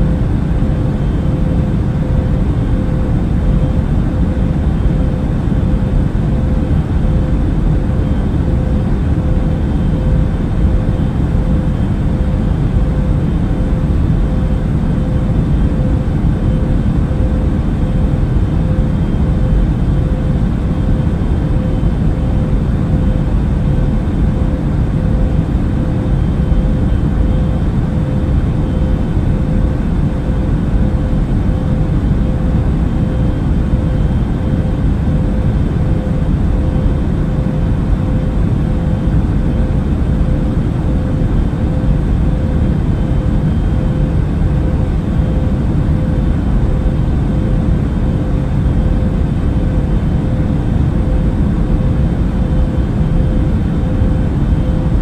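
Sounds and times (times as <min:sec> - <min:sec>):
airliner cabin engine rumble: 0:00.0 - 0:55.0
steady cabin hum: 0:00.0 - 0:55.0.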